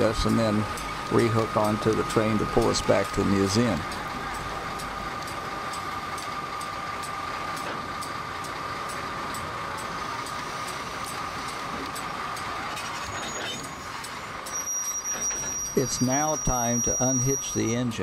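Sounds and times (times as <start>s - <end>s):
diesel locomotive engine running: 0.0s - 18.0s
steady whine: 0.0s - 18.0s.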